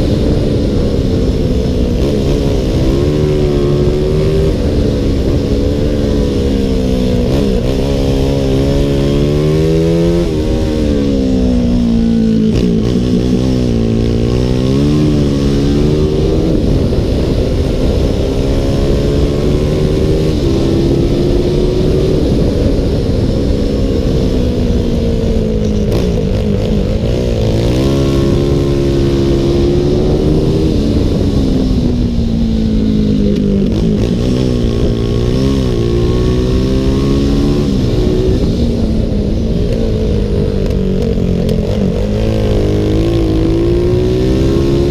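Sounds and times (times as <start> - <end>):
motorcycle engine revving: 0.0 - 44.9
wind rush on microphone: 0.0 - 44.9.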